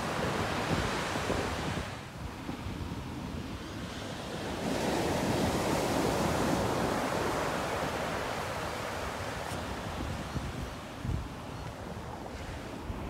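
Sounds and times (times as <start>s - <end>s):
small waves breaking on a beach: 0.0s - 13.0s.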